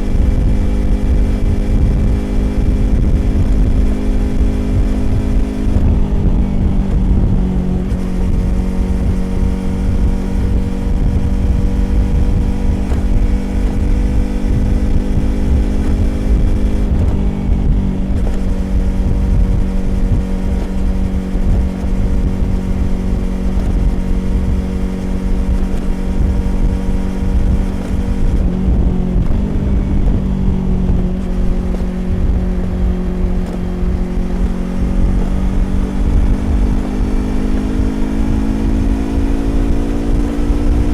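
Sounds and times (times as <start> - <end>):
motorcycle engine cruising: 0.0 - 40.9
wind rush on microphone: 0.0 - 40.9.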